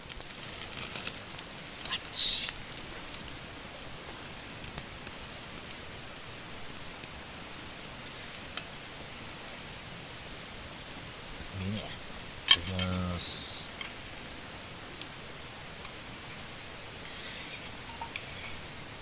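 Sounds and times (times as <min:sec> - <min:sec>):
campfire crackling: 0:00.0 - 0:19.0
meat sizzling on a grill: 0:00.0 - 0:19.0.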